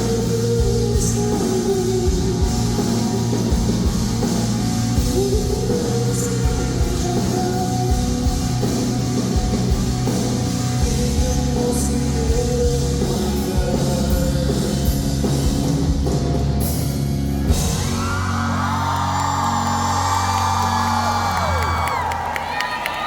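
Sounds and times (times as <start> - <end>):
live rock band playing: 0.0 - 22.3.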